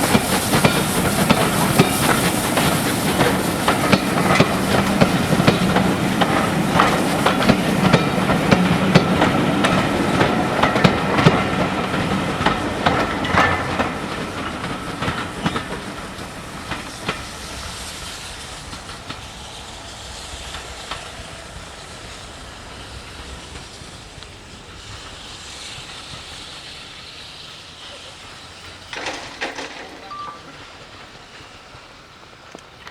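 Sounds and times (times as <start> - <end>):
faint hiss: 0.0 - 32.9
train wheels clicking over rail joints: 0.0 - 32.9.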